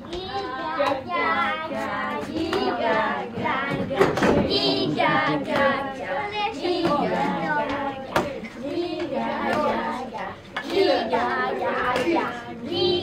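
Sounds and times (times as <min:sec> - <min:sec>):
voices chanting in unison: 0:00.6 - 0:13.0.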